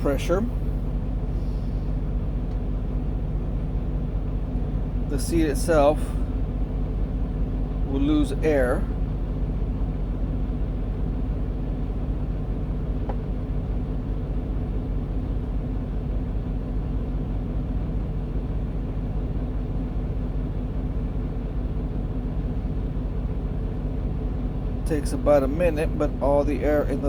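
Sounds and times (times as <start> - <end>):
truck idling: 0.0 - 27.0.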